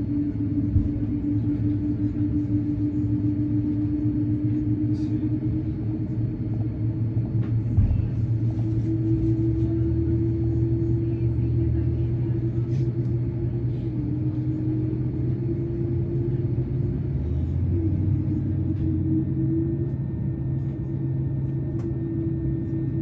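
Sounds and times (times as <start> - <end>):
aircraft cabin engine rumble: 0.0 - 23.0
steady hum: 0.0 - 23.0.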